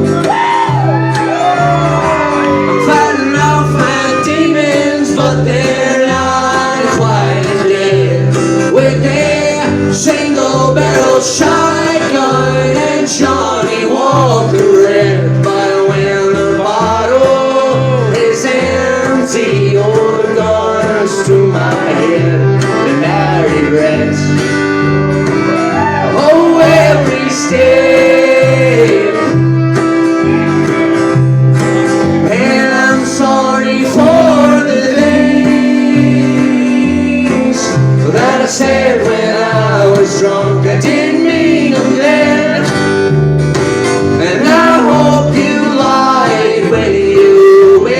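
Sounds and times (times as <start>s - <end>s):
acoustic country band playing: 0.0s - 47.9s.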